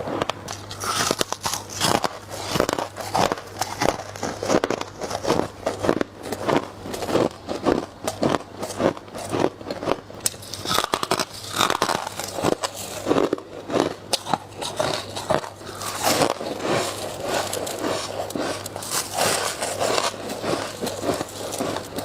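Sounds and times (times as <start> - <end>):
frost crunching when chewed: 0.0 - 22.0.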